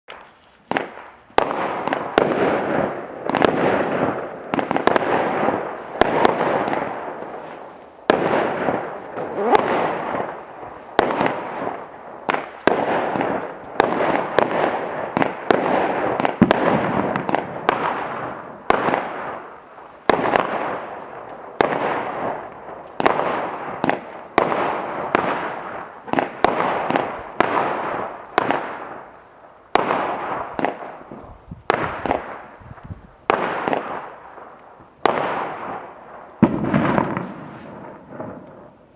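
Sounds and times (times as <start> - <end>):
crackling firework trails: 0.1 - 38.9
firework bangs: 0.1 - 38.9.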